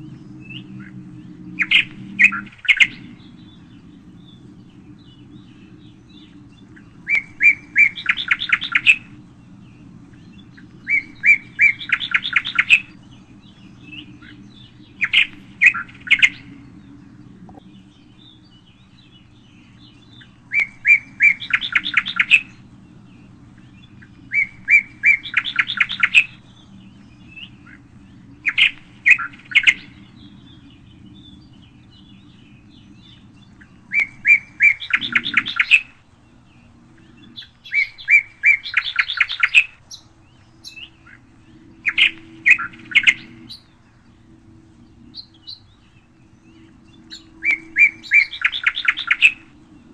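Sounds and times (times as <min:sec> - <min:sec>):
faint low hum: 0:00.0 - 0:49.9
songbird singing: 0:00.0 - 0:49.9.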